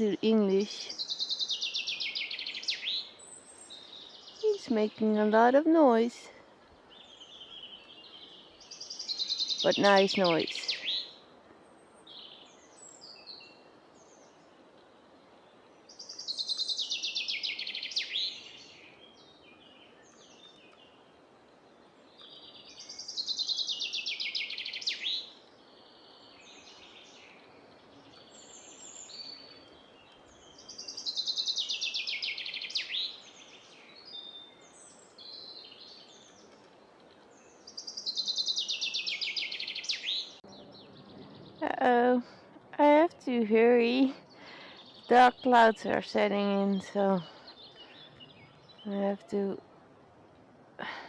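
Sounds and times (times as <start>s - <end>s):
chaffinch singing: 0.0s - 14.7s, 15.3s - 21.2s, 22.0s - 49.7s
other birds calling softly: 0.0s - 51.0s.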